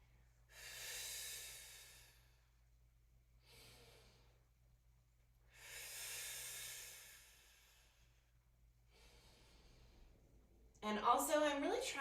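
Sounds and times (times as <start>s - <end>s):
woman breathing while exercising: 0.0s - 4.8s, 5.4s - 10.5s.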